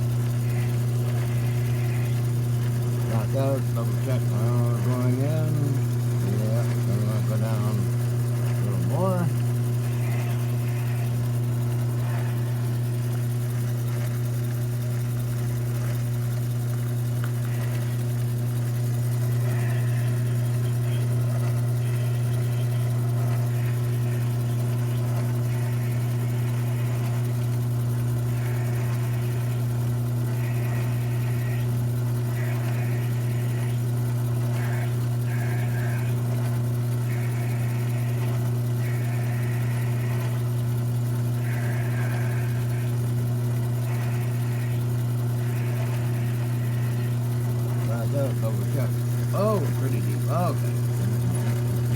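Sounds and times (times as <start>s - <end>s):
drill bit cutting metal: 0.0s - 51.9s
lathe motor hum: 0.0s - 51.9s.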